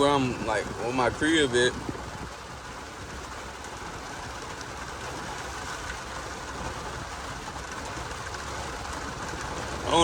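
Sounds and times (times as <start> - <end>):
rain on car: 0.0 - 10.0
tyres on wet road: 0.0 - 10.0.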